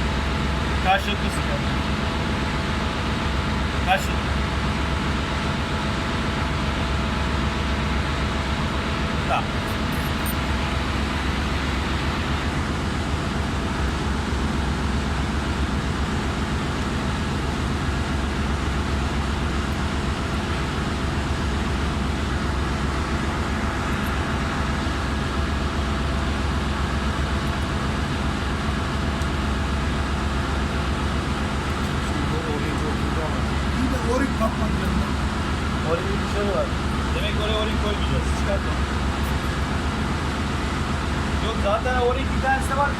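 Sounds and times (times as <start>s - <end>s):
engine room machinery drone: 0.0s - 42.9s.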